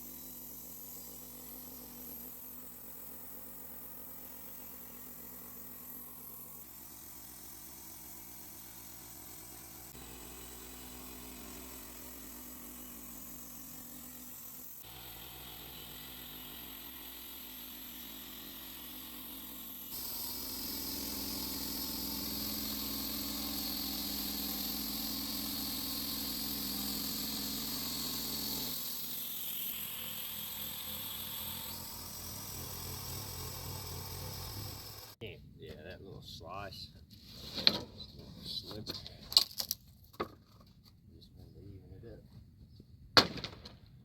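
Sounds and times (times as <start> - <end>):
bandsaw sawmill cutting log: 0.0 - 35.2.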